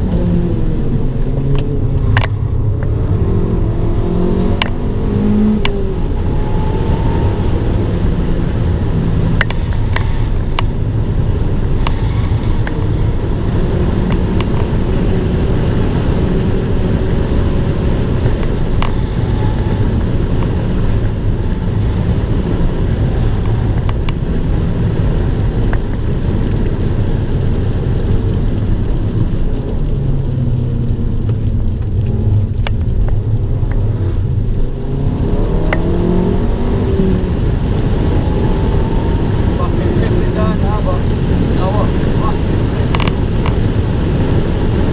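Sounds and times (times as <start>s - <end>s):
car engine running hard: 0.0s - 44.9s
road and wind noise: 0.0s - 44.9s.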